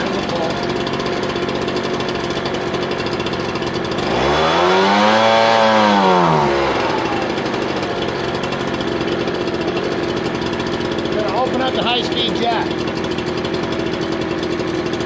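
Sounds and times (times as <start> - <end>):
leaf blower engine idling and revving: 0.0 - 15.0.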